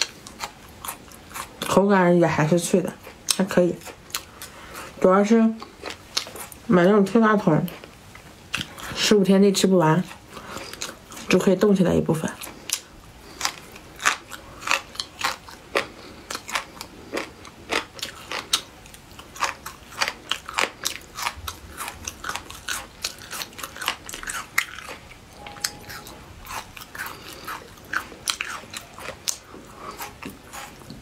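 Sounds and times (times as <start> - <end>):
crunchy chewing: 0.0 - 1.8, 2.8 - 6.6, 7.6 - 9.0, 10.0 - 11.5, 12.3 - 31.0.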